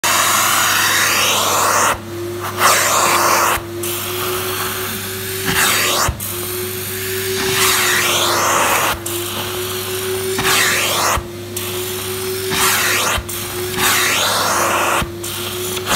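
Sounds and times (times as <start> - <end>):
carpet extractor suction hiss: 0.0 - 15.9
machine hum and whine: 0.2 - 15.9.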